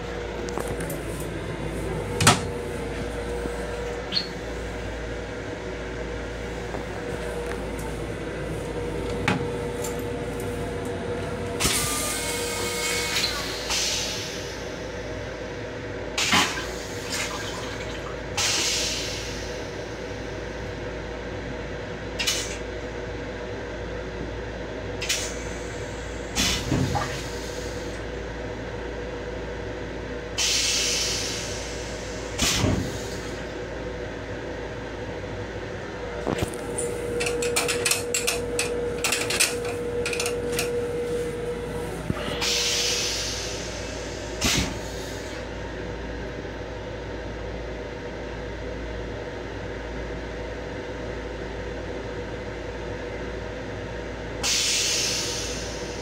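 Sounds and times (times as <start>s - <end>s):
railcar hum: 0.0s - 56.0s.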